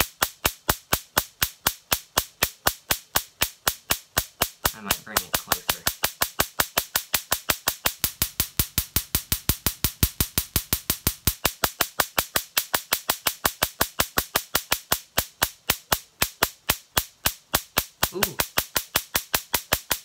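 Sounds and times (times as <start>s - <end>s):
spark gap cracking snaps: 0.0s - 20.0s.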